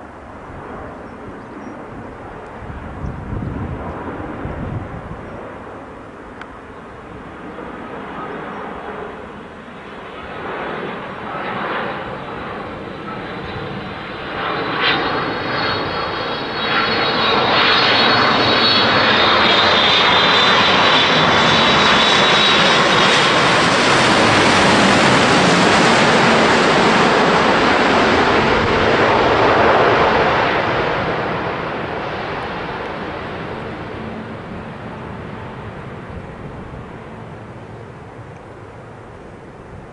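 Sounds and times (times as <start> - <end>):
jet airliner passing: 0.0 - 39.9.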